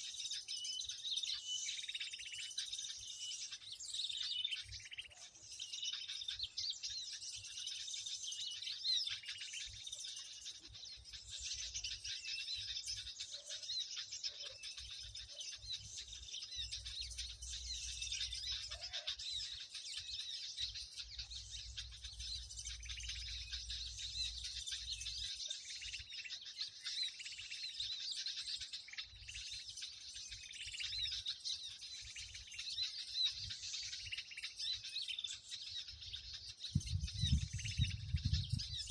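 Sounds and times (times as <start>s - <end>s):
small birds chirping chorus: 0.0s - 38.9s.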